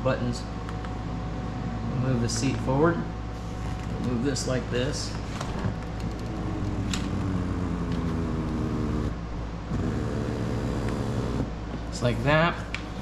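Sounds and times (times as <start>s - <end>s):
seat motor electric whine: 0.0s - 13.0s.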